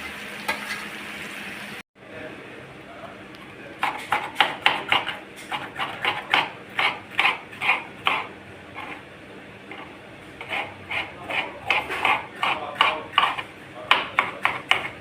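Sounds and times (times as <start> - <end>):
rhythmic kitchen work strokes: 0.0 - 15.0.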